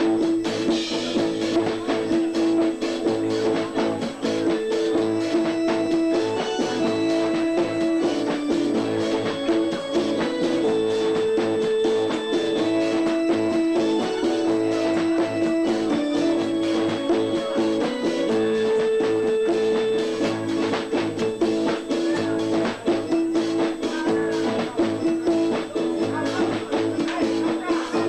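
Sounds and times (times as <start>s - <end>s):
drum kit beat: 0.0s - 28.0s
guitar: 0.0s - 28.0s.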